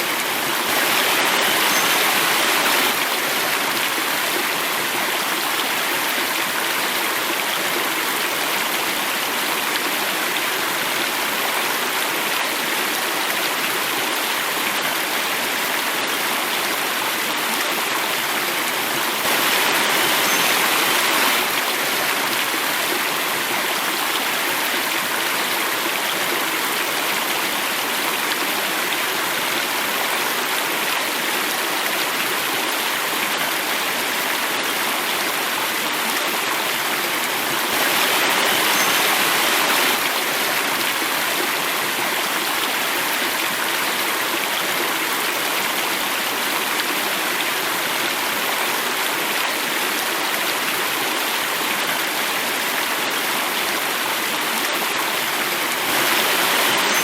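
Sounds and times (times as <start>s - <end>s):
water cascading: 0.0s - 57.0s.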